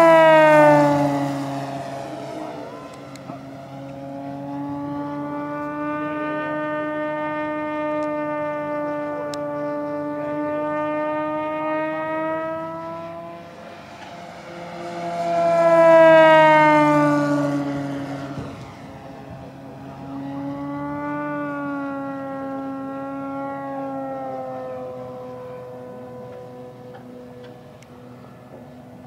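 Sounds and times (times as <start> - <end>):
model plane propeller whine: 0.0 - 29.0.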